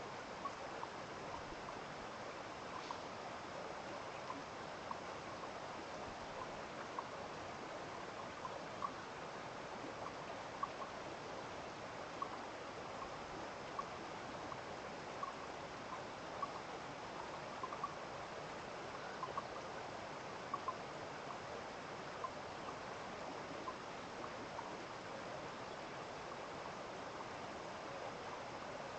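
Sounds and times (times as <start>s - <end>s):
stream of running water: 0.0s - 28.9s.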